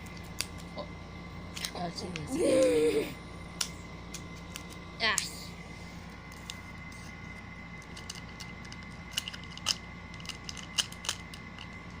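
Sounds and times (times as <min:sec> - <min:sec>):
faint electrical whine: 0:00.0 - 0:12.0.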